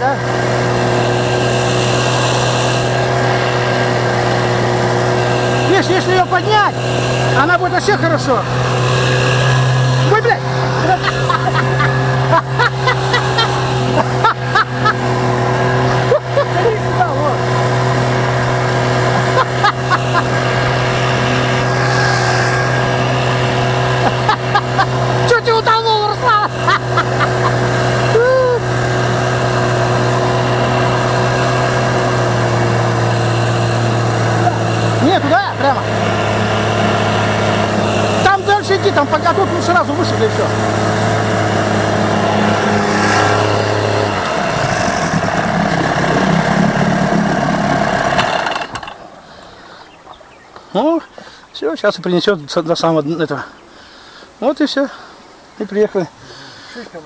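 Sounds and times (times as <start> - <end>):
outboard motor running: 0.0 - 54.3, 54.9 - 57.0.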